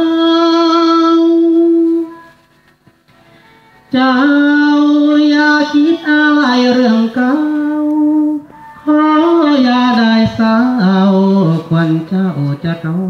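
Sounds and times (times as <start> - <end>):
person singing long notes: 0.0 - 2.3, 3.9 - 13.0.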